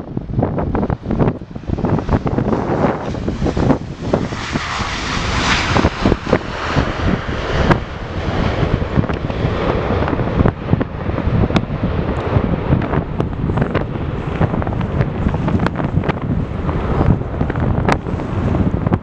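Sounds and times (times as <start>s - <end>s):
jet airliner engines running: 0.0s - 19.0s
low wind gust thumps: 0.0s - 19.0s
wind buffeting microphone: 0.0s - 19.0s.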